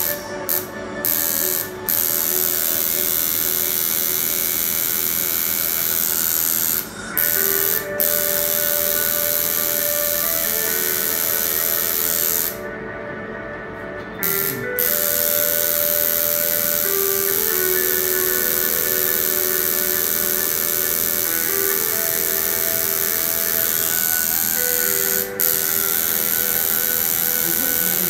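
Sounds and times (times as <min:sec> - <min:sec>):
tattoo machine buzzing: 0:00.0 - 0:12.6, 0:14.2 - 0:28.0.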